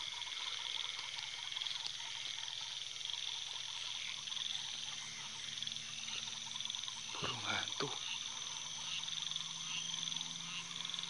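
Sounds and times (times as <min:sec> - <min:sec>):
crickets and insects trilling: 0:00.0 - 0:11.0
frogs croaking: 0:00.0 - 0:11.0.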